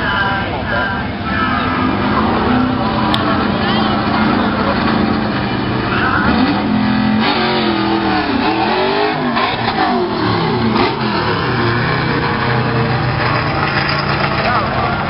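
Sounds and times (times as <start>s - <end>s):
drag car engine accelerating: 0.6s - 15.0s.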